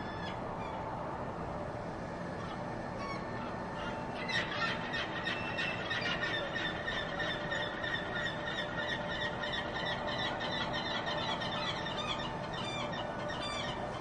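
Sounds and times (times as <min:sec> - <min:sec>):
gulls crying: 0:00.0 - 0:14.0
urban rumble and hum: 0:00.0 - 0:14.0.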